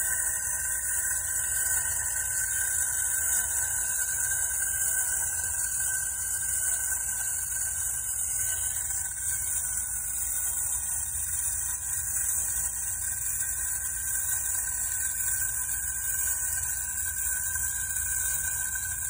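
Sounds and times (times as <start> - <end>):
clockwork toy motor whirring: 0.0 - 19.0
steady hiss: 0.0 - 19.0.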